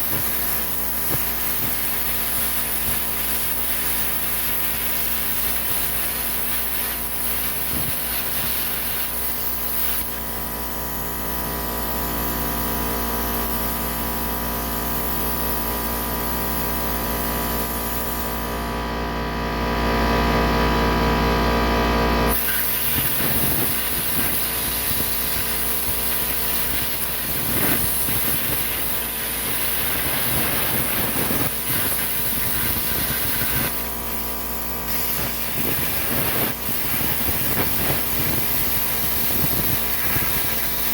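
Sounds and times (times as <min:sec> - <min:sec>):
plasma cutter hissing: 0:00.0 - 0:18.8, 0:22.3 - 0:40.9
steady machine hum: 0:00.0 - 0:40.9.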